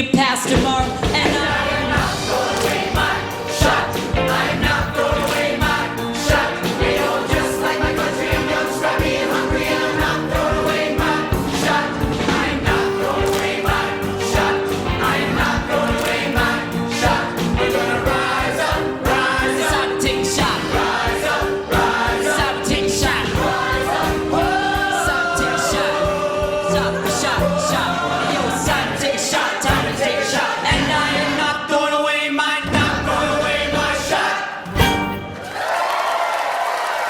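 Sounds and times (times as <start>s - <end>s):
choir singing: 1.0s - 36.5s.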